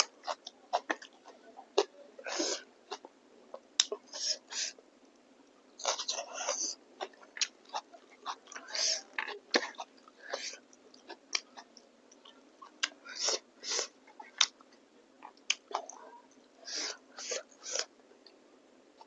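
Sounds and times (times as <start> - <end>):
person chewing food: 0.0 - 4.2, 5.8 - 18.4.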